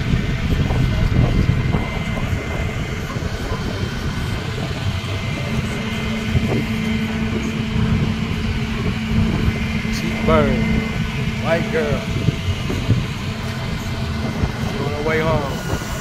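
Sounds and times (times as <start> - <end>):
truck engine rumble: 0.0 - 16.0
winch humming: 0.0 - 16.0.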